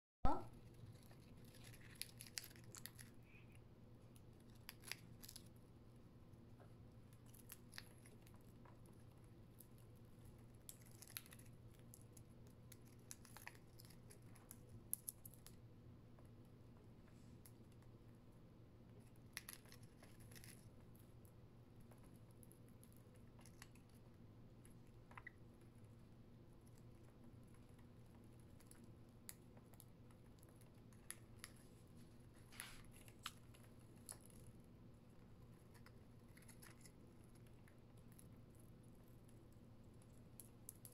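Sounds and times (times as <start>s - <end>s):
low steady hum: 0.2s - 40.9s.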